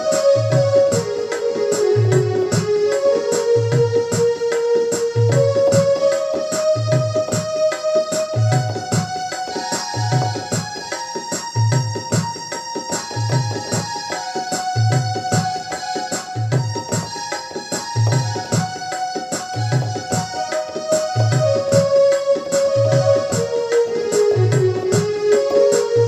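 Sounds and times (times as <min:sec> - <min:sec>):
electronic keyboard slow melody: 0:00.0 - 0:26.0.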